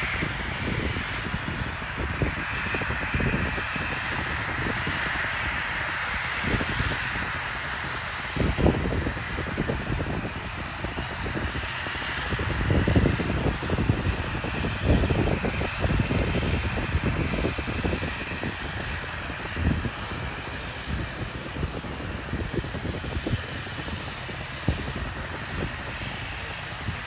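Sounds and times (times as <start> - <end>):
aircraft engine roar: 0.0 - 27.0.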